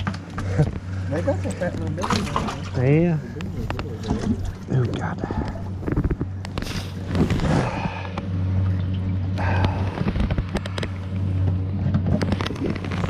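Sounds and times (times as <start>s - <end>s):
low hum on a boat: 0.0s - 13.0s.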